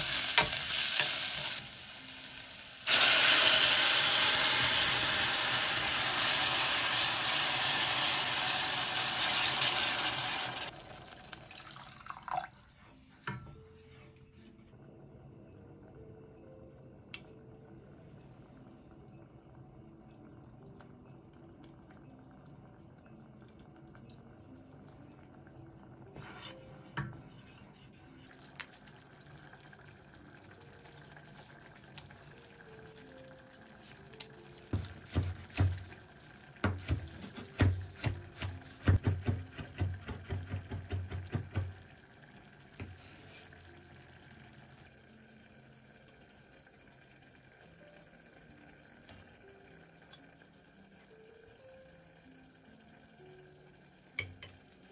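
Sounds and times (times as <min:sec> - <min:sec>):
soft background music: 0:00.0 - 0:54.9.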